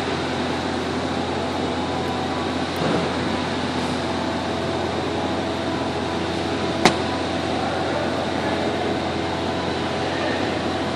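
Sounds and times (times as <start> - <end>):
machinery humming: 0.0 - 10.9.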